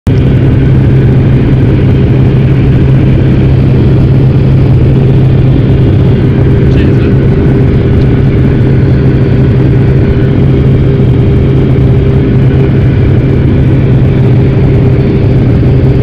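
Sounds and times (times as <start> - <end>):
aircraft engine and propeller drone: 0.0 - 16.0.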